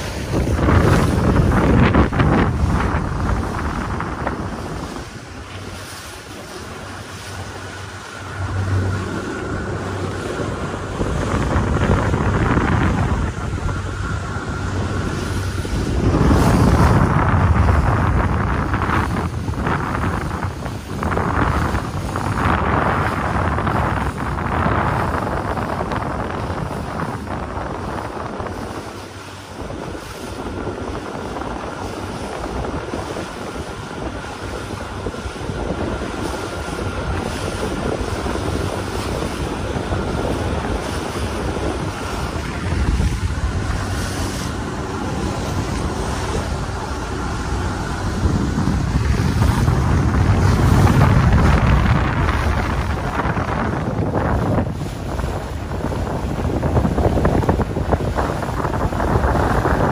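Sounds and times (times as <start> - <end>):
sea water rushing past hull: 0.0 - 59.9
wind buffeting microphone: 0.0 - 59.9.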